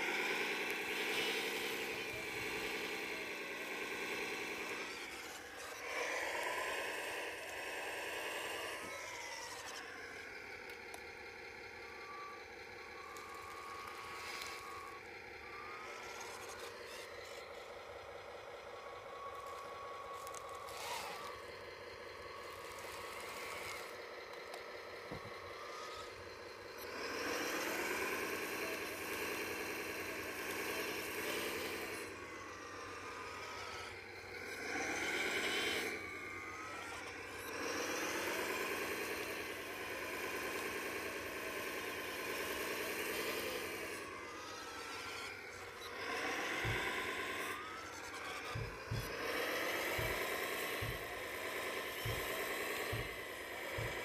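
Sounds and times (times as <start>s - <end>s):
toy excavator motor whining: 0.0s - 54.0s.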